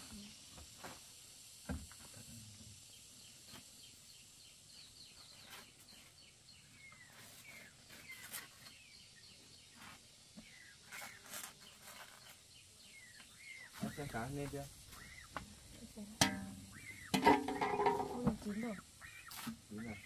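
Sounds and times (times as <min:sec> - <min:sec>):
soft hiss: 0:00.0 - 0:20.0
birds chirping: 0:02.8 - 0:20.0.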